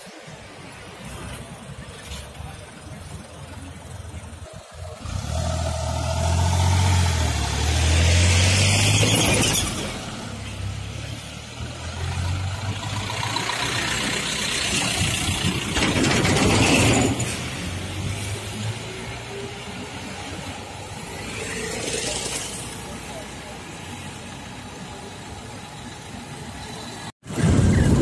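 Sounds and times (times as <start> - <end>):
road noise rushes: 0.0 - 28.0.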